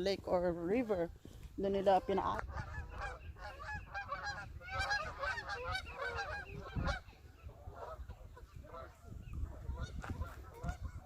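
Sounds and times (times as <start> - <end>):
wind rumble on microphone: 0.0 - 11.0
geese honking: 1.7 - 11.0.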